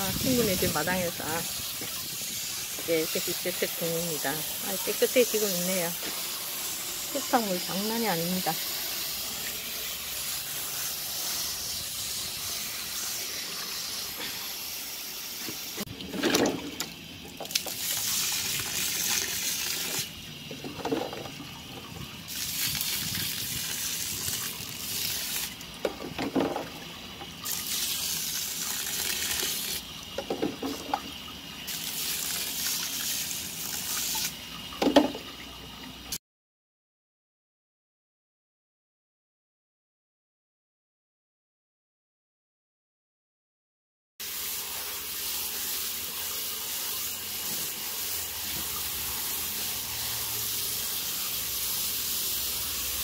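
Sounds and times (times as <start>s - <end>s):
hose water splashing on grit: 0.0s - 36.2s, 44.2s - 53.0s.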